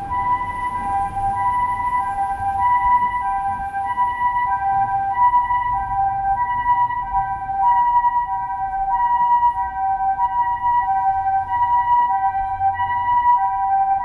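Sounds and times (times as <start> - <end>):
two-tone ambulance siren: 0.0 - 14.0.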